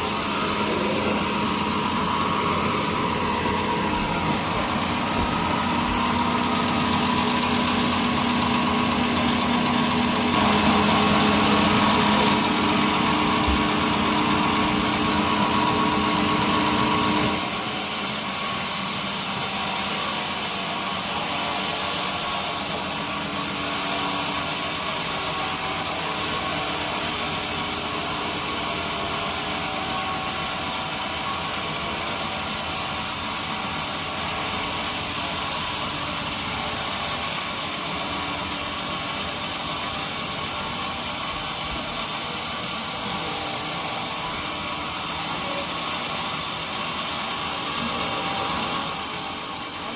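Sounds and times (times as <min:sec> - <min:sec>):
power tool motor humming: 0:00.0 - 0:49.9.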